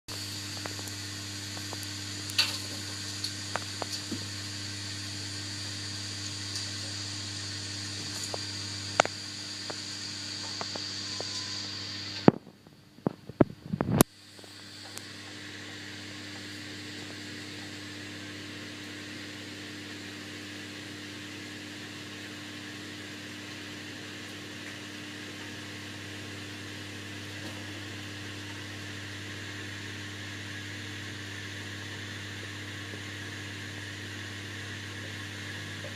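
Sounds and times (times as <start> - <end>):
washing machine humming: 0.1 - 35.9.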